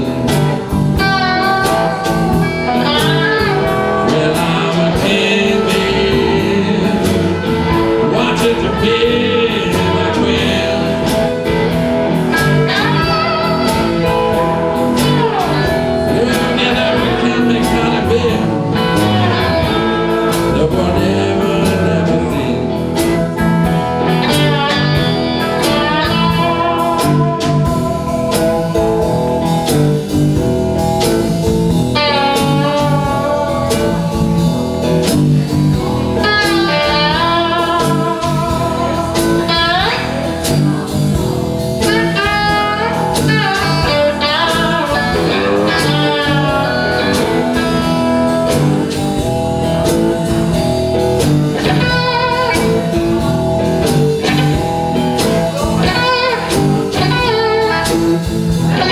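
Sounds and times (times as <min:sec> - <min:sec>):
amplified slide guitar: 0:00.0 - 0:58.9
blues band playing: 0:00.0 - 0:58.9
steady drum beat: 0:00.0 - 0:58.9.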